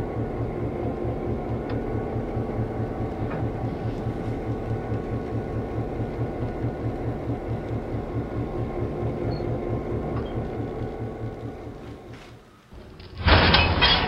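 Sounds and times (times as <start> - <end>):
model train pulsing hum: 0.0 - 13.9.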